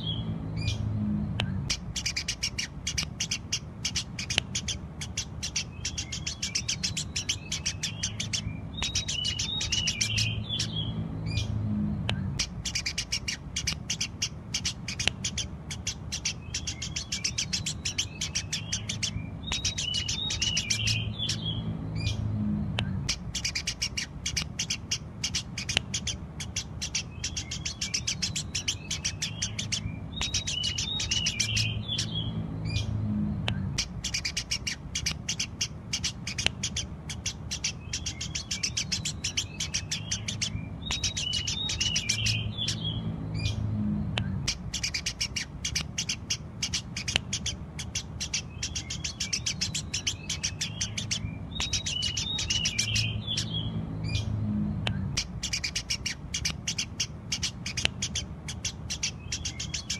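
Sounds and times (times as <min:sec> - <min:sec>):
faint low hum: 0:00.0 - 0:59.9
sparrow chirping rapidly: 0:00.0 - 0:59.9.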